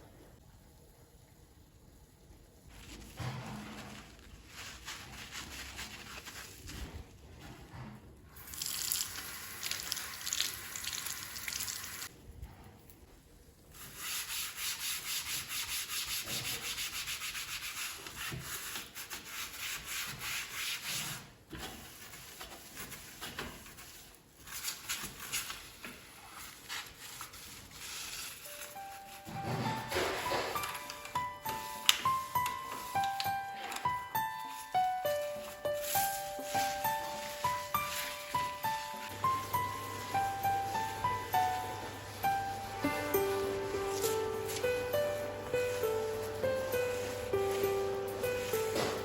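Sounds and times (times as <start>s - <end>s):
hand scrubbing a surface: 2.7s - 7.2s, 13.8s - 49.0s.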